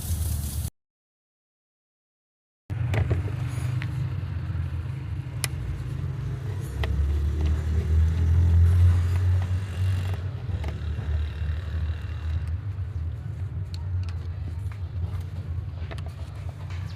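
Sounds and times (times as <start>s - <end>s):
engine rumbling: 2.7s - 16.9s.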